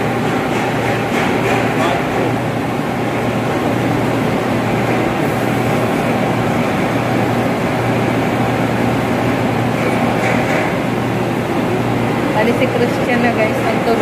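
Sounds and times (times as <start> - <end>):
ventilation machinery drone: 0.0 - 14.0.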